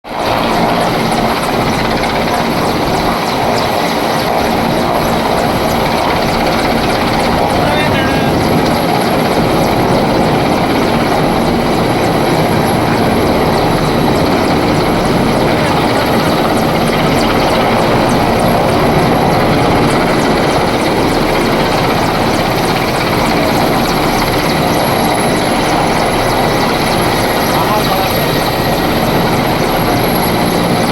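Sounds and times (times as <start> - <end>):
helicopter rotor and engine: 0.0 - 30.9.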